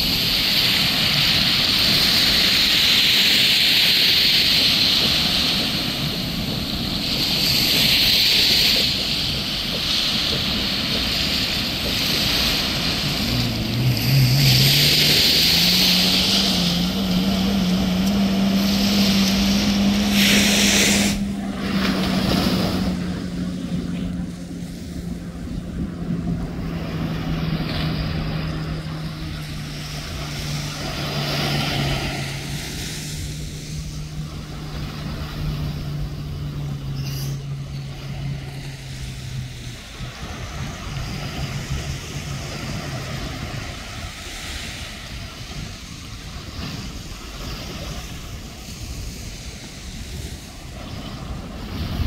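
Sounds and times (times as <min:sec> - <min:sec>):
motorboat engine humming: 0:00.0 - 0:52.0
waves: 0:00.0 - 0:52.0
wind: 0:00.0 - 0:52.0.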